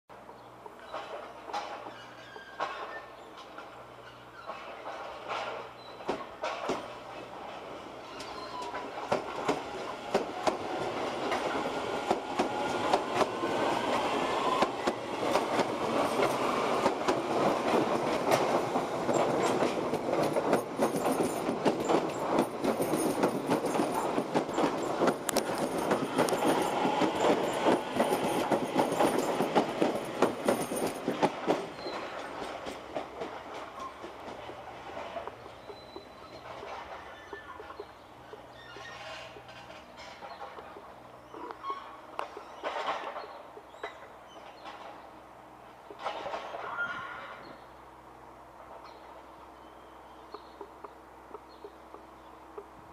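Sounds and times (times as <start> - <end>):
train wheels clattering over rails: 0.1 - 47.6.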